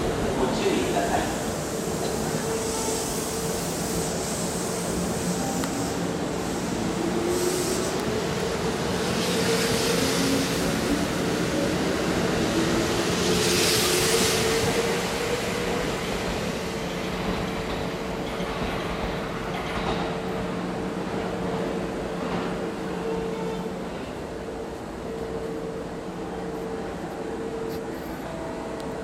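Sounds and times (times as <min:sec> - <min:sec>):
train cars running noise: 0:00.0 - 0:29.0.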